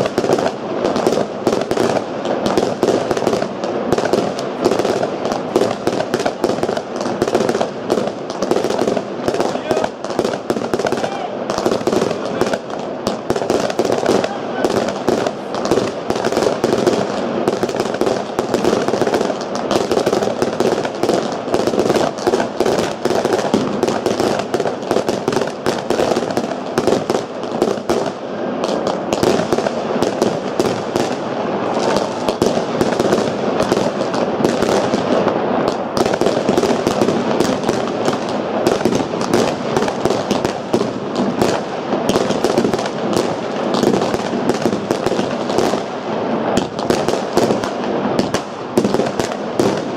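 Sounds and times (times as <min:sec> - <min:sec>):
fireworks bangs: 0:00.0 - 0:49.9
fireworks crackle: 0:00.0 - 0:49.9.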